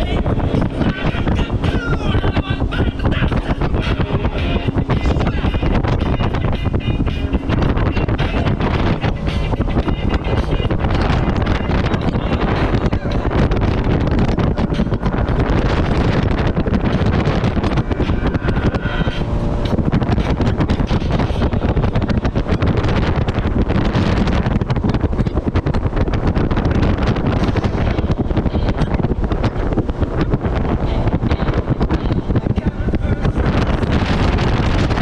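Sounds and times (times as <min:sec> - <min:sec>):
jet ski engine running: 0:00.0 - 0:35.0
wind buffeting microphone: 0:00.0 - 0:35.0.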